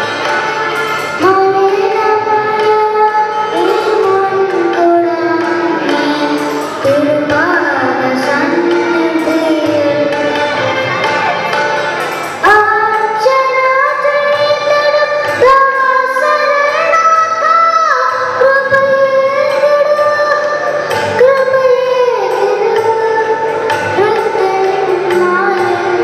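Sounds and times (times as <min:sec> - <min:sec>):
instrumental accompaniment: 0:00.0 - 0:26.0
boy singing into a microphone: 0:00.8 - 0:10.8, 0:12.4 - 0:26.0.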